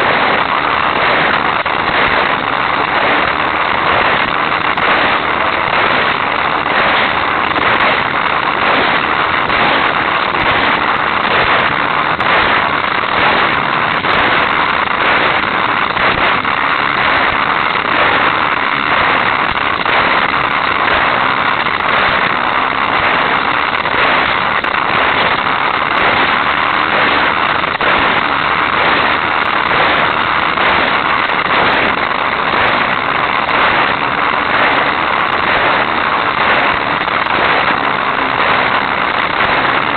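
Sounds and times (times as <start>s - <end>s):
toy race car motor and wheels: 0.0s - 39.9s.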